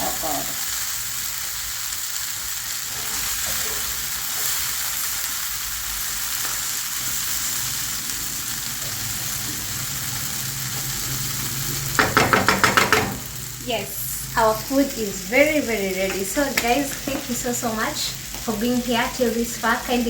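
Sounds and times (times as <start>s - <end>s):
food sizzling: 0.0s - 20.0s.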